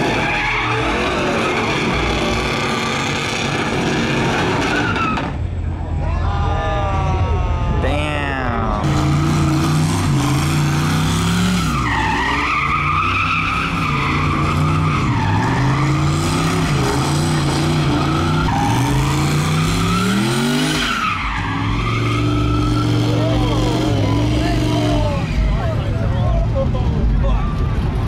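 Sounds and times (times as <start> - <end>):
tires squealing: 0.0 - 5.6, 8.8 - 28.0
truck engine at high revs: 0.0 - 5.6, 8.8 - 26.6.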